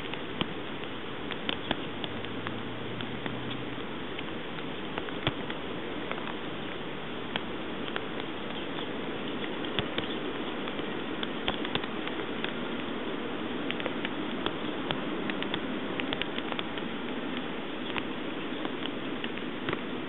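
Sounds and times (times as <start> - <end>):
sharp taps of raindrops: 0.0 - 20.0
steady rain hiss: 0.0 - 20.0.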